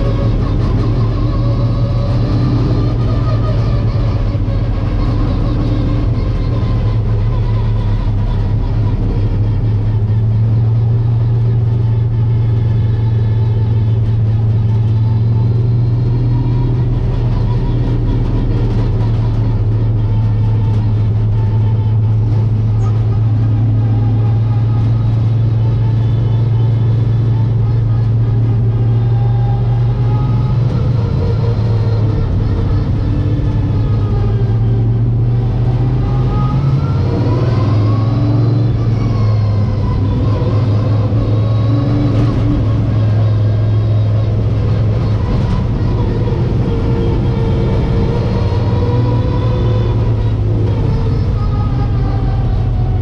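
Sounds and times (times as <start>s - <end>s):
race car engine droning: 0.0s - 53.0s.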